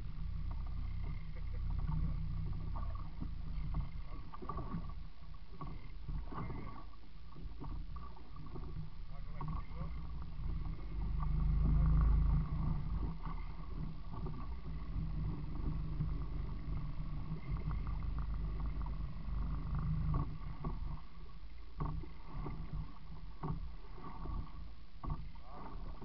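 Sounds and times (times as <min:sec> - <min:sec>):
low rumble: 0:00.0 - 0:26.0
water sloshing against hull: 0:00.0 - 0:26.0.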